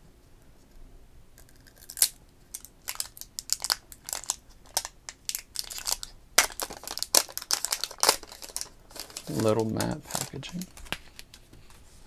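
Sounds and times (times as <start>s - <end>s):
plastic wrapping crinkling: 1.5s - 11.8s.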